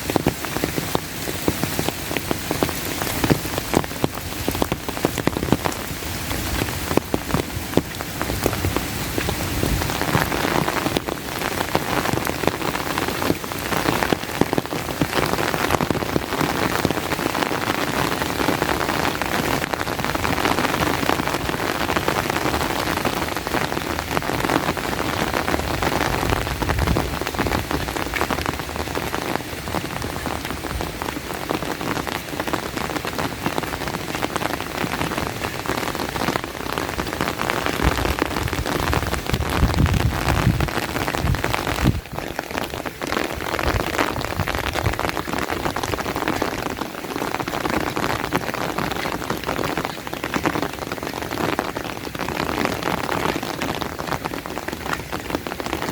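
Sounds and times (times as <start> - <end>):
rain drops hitting: 0.0 - 55.9.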